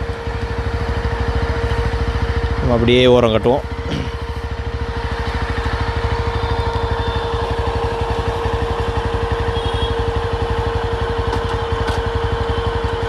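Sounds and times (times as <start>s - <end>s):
motorcycle engine idling: 0.0s - 13.0s
steady hum: 0.0s - 13.0s.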